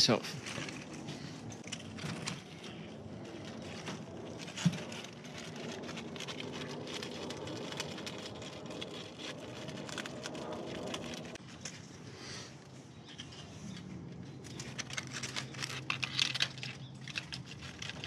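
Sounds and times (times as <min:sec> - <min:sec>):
rabbit crunching dry leaves: 0:00.0 - 0:12.3, 0:13.4 - 0:18.0.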